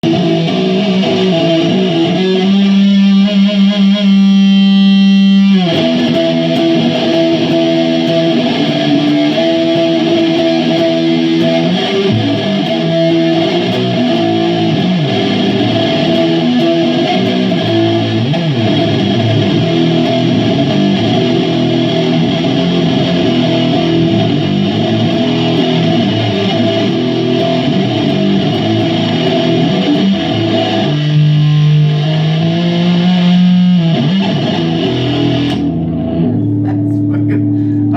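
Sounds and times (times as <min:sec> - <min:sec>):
electric guitar with effects: 0:00.0 - 0:37.9.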